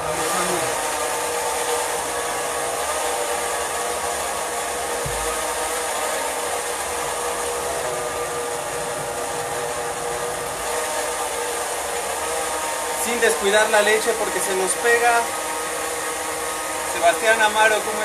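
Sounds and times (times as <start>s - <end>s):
blender running: 0.0s - 18.0s.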